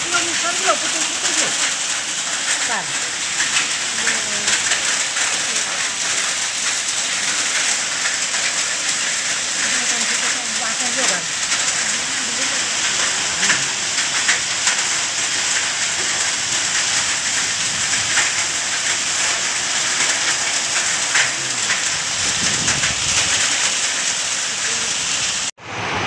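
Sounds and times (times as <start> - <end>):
heavy rain and hail on paving: 0.0 - 26.0.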